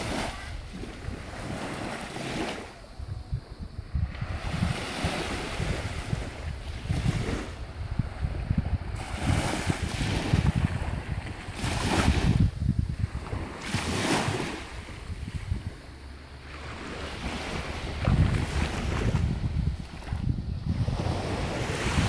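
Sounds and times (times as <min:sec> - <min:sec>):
small waves washing up beach: 0:00.0 - 0:22.0
wind buffeting microphone: 0:00.0 - 0:22.0.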